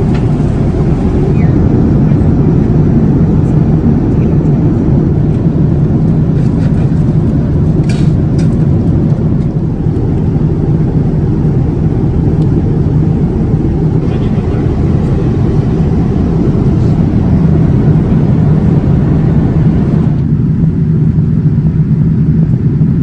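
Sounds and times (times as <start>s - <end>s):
airliner cabin noise: 0.0s - 23.0s.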